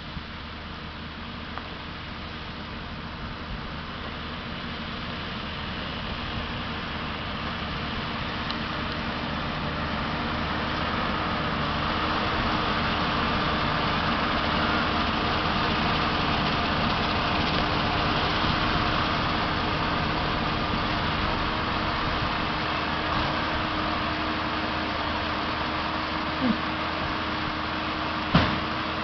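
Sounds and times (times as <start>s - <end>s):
tractor diesel engine droning: 0.0s - 29.0s.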